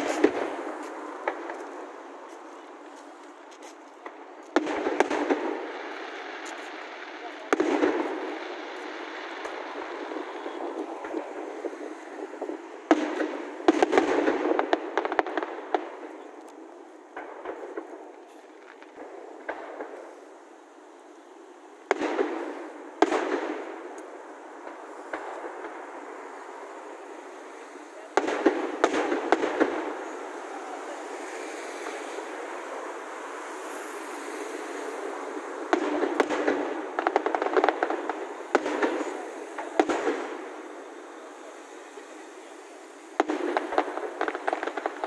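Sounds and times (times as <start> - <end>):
fireworks bangs: 0.0 - 45.0
fireworks crackling: 0.0 - 45.0.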